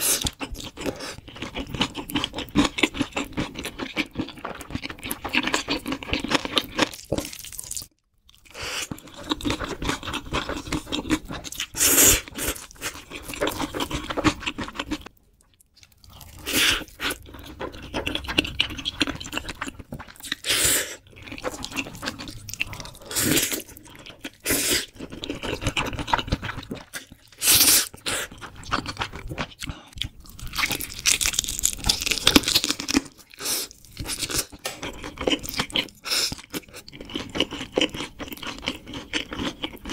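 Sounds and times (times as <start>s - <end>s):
crunchy bites and chewing: 0.0s - 15.1s, 15.8s - 39.9s.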